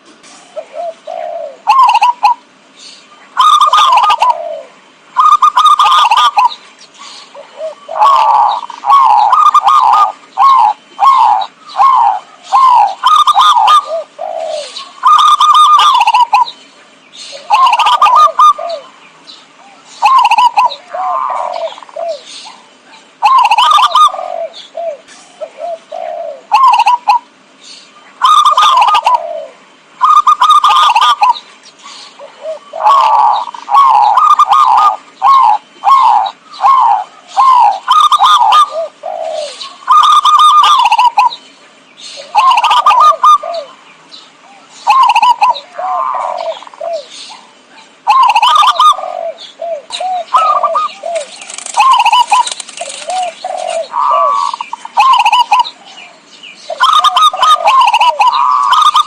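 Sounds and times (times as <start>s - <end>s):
dove cooing: 0.3s - 2.6s, 3.3s - 16.6s, 17.2s - 19.0s, 19.6s - 27.3s, 28.2s - 41.4s, 42.1s - 43.8s, 44.4s - 59.0s.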